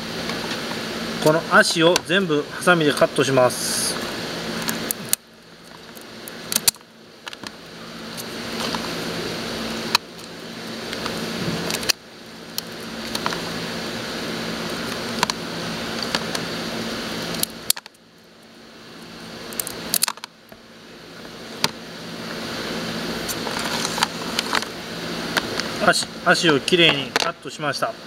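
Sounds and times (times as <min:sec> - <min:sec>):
steady hum and hiss: 0:00.0 - 0:28.0.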